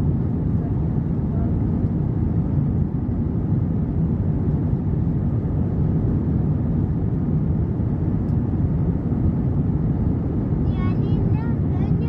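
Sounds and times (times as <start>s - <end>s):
airplane cabin engine roar: 0.0s - 12.0s.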